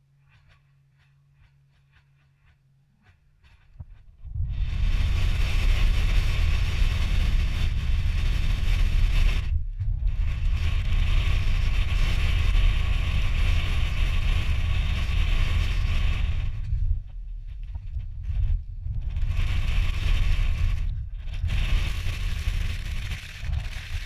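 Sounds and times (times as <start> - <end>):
wind and road noise while driving: 3.5 - 24.0.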